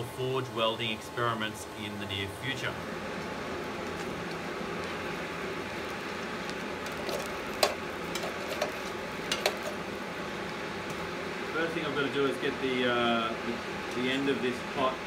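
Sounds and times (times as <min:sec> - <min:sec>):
forge fire hissing and crackling: 0:00.0 - 0:15.0.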